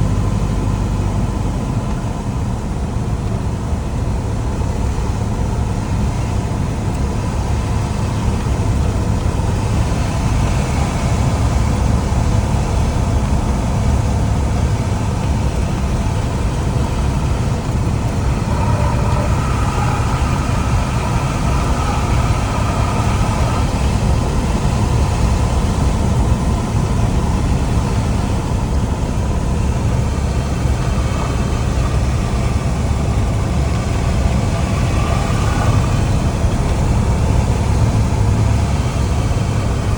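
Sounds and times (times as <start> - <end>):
light airplane cabin engine rumble: 0.0 - 39.9.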